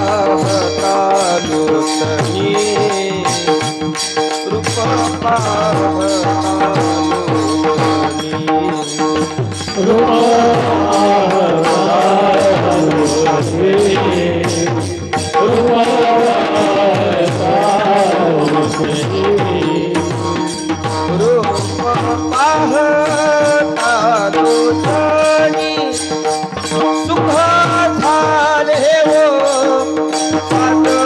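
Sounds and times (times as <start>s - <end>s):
hand drum beat: 0.0s - 31.0s
harmonium drone and melody: 0.0s - 31.0s
person singing: 0.0s - 31.0s.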